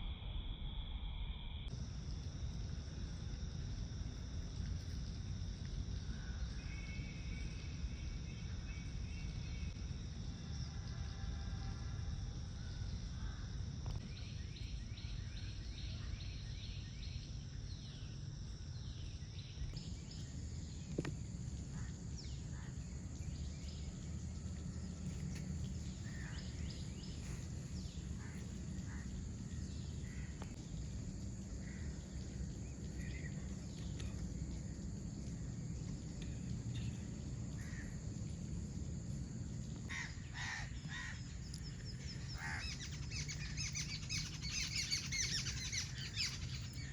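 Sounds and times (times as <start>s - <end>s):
low background rumble: 0.0s - 46.9s.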